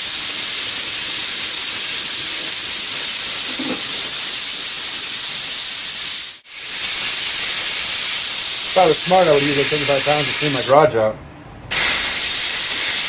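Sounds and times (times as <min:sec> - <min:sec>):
compressed air hissing: 0:00.0 - 0:10.8, 0:11.7 - 0:13.0.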